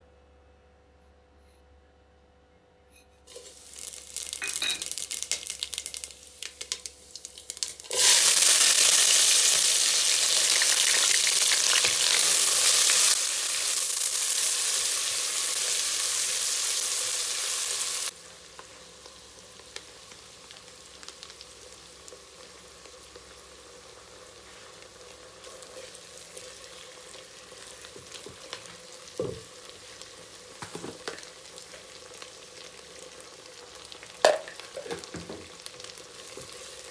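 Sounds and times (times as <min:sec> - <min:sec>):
food sizzling in hot oil: 0:03.3 - 0:36.9.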